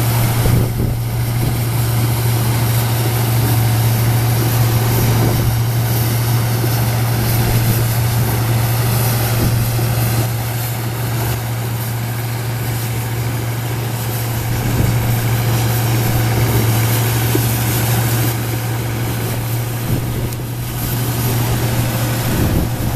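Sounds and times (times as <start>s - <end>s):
combine harvester droning: 0.0s - 22.9s.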